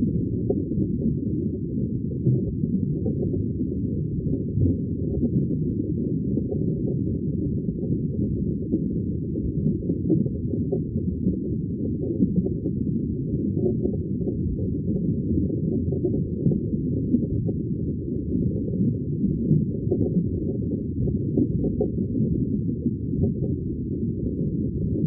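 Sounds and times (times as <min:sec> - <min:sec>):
muffled rumble of moving water: 0:00.0 - 0:25.0.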